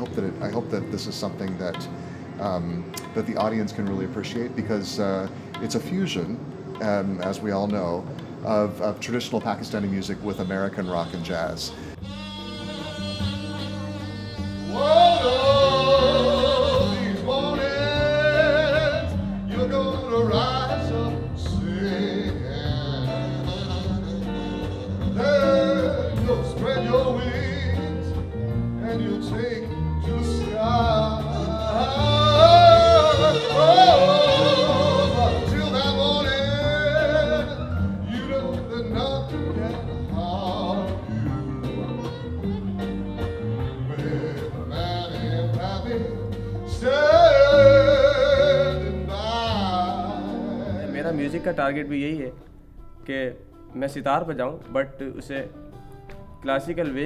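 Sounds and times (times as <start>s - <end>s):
fusion band playing: 0.0s - 57.0s.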